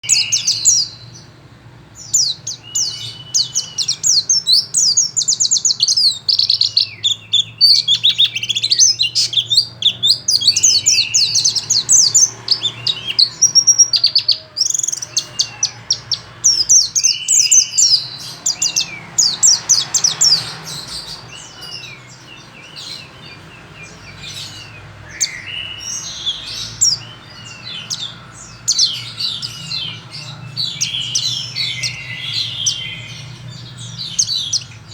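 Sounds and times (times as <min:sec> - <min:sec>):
bird twittering song: 0:00.0 - 0:34.9.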